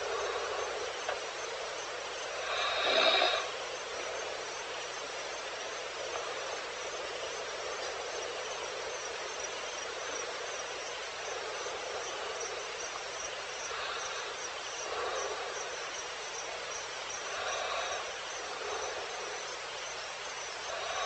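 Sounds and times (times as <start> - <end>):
background hiss: 0.0 - 21.0
insects chirping: 0.0 - 21.0.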